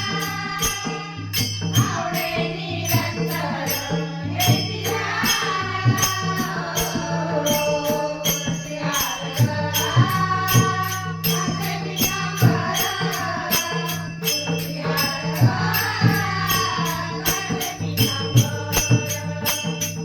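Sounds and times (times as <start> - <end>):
woman singing: 0.0 - 19.8
hand drum beat: 0.0 - 20.0
jingling percussion: 0.0 - 20.0.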